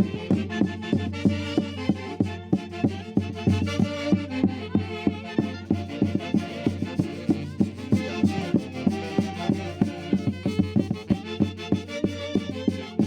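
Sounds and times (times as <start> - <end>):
folk ensemble playing melody: 0.0 - 13.0.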